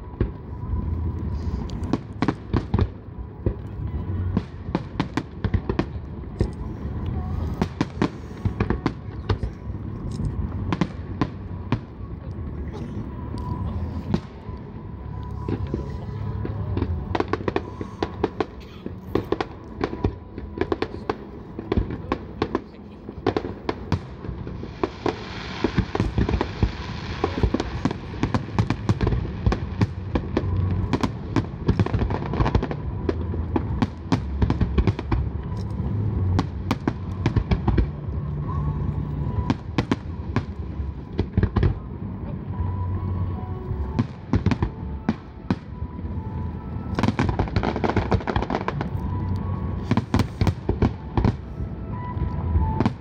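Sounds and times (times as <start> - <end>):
fireworks bangs: 0.0 - 53.0
low background rumble: 0.0 - 53.0
fireworks crackling hiss: 4.2 - 22.7, 23.3 - 41.8, 44.0 - 51.9.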